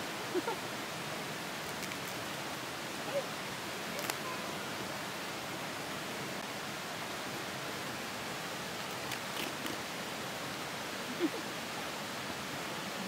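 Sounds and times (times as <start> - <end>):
water rushing in stream: 0.0 - 13.0.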